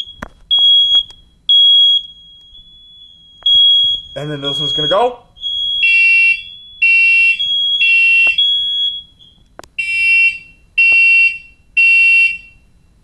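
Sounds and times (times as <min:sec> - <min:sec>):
smoke alarm shrill beeps: 0:00.0 - 0:12.7
smoke alarm steady tone: 0:00.0 - 0:13.0.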